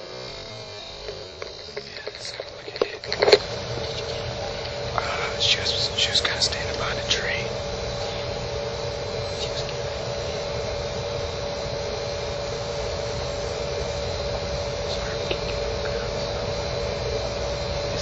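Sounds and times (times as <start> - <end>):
humming tone: 0.0 - 18.0
steady hiss: 0.0 - 18.0.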